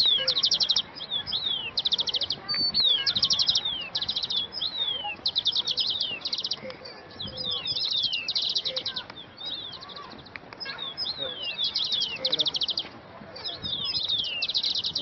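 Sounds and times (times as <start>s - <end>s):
small birds chirping and singing: 0.0s - 15.0s.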